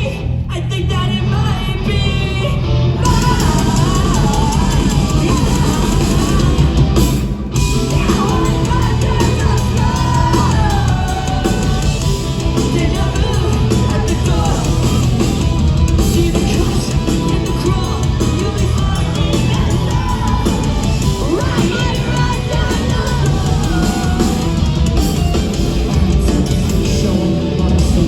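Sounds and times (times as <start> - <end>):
person singing: 0.0 - 6.8, 7.6 - 24.7
live rock band playing: 0.0 - 28.0
drum kit: 3.0 - 28.0.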